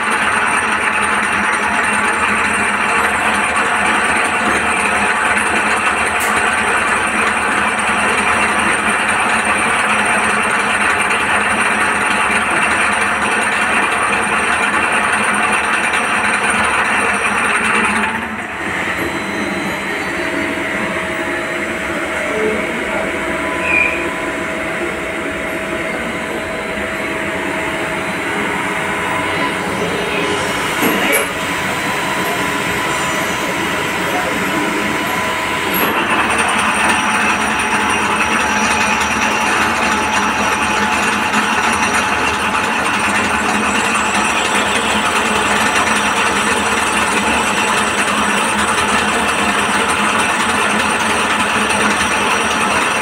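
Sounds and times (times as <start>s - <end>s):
lathe machine noise: 0.0s - 53.0s.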